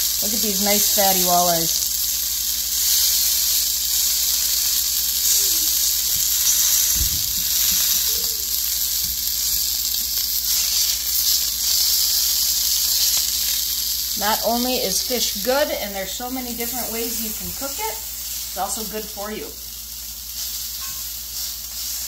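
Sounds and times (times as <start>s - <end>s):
fish fillets sizzling in skillet: 0.0s - 22.0s.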